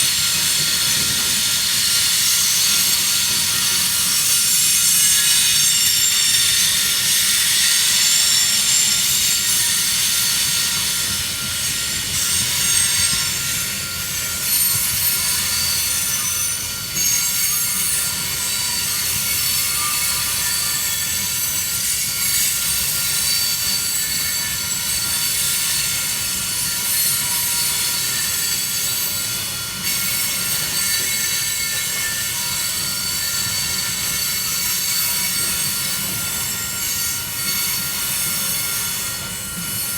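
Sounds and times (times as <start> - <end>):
train wheels squealing on rails: 0.0 - 39.9.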